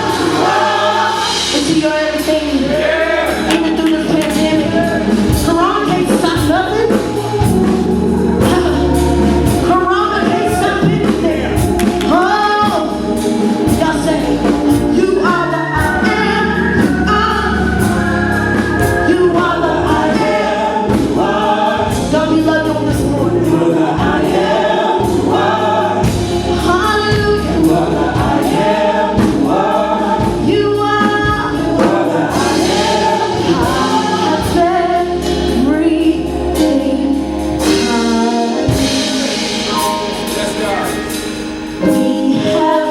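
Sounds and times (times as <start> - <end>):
band with steady bass: 0.0 - 42.9
gospel singers and choir: 0.0 - 42.9.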